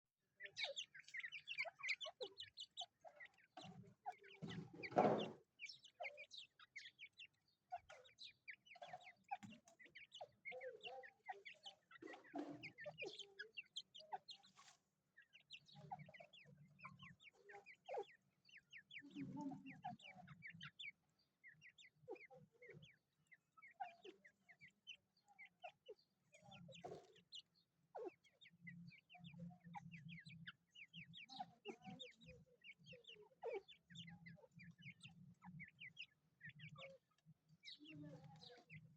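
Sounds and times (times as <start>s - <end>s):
chickens clucking: 0.4s - 38.9s.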